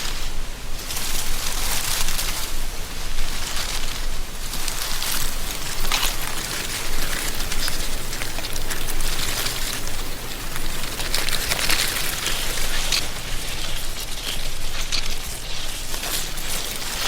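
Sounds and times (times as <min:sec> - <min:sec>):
dry leaves rustling in wind: 0:00.0 - 0:17.0.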